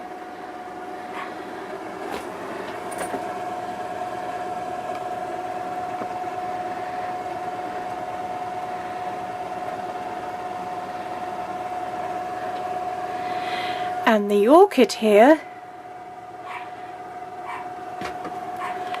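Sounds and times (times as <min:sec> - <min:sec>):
machine humming with whine: 0:00.0 - 0:19.0.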